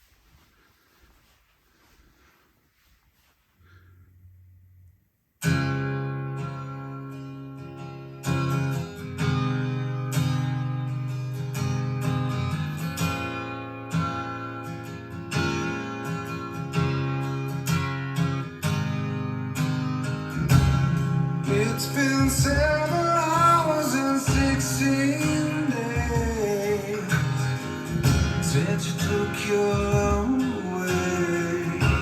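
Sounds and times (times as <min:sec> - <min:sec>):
acoustic guitar strumming: 0:05.4 - 0:32.0.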